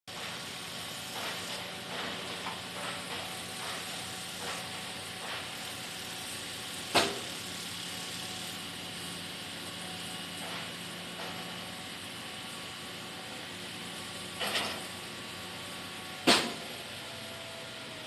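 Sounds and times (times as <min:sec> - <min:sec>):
diesel engine running: 0:00.1 - 0:18.0.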